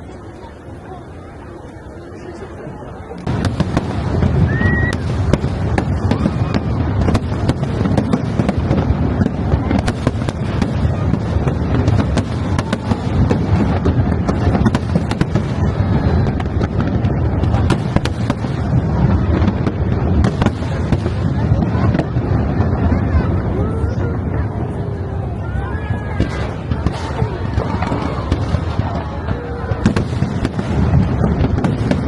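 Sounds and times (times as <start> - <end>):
low rumble of fireworks: 0.0 - 32.0
fireworks cracking: 2.4 - 32.0.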